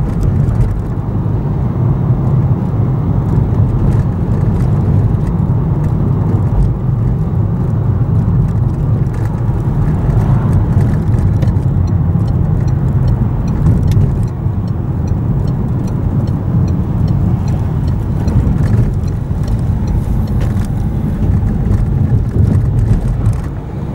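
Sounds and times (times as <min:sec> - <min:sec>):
car engine and tyre rumble: 0:00.0 - 0:23.9.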